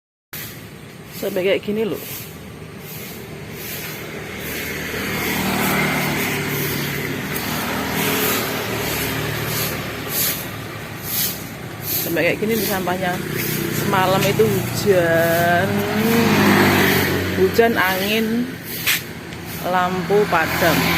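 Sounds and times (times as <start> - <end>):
vehicle engine passing: 0.4 - 20.9.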